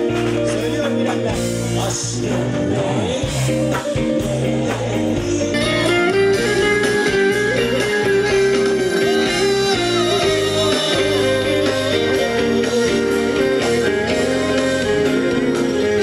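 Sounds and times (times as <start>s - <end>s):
live band with guitar: 0.0s - 16.0s.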